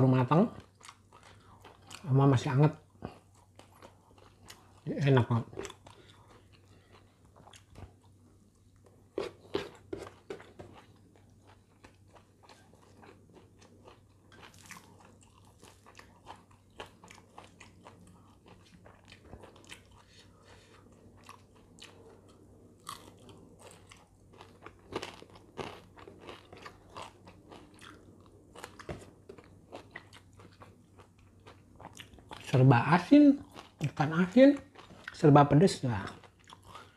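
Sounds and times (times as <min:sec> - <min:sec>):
chewing and crunching food: 0:00.2 - 0:36.9.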